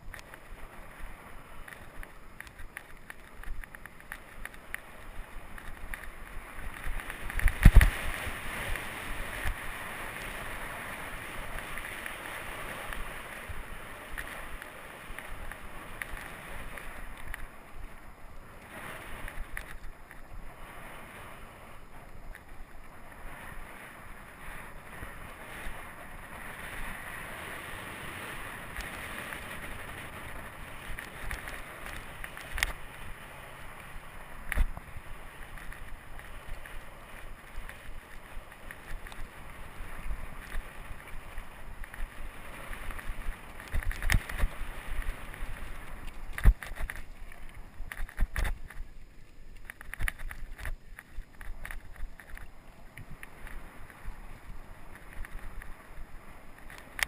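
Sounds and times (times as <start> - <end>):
bike knocking and rattling: 0.0 - 20.6, 21.9 - 57.0
bike tyres rolling on dirt: 0.0 - 57.0
wind on microphone: 0.0 - 57.0.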